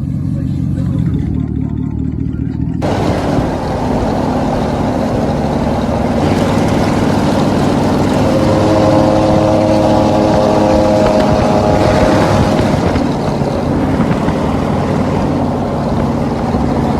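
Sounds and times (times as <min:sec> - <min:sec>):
truck engine exhaust: 0:00.0 - 0:16.9
higher steady tone: 0:02.8 - 0:16.9.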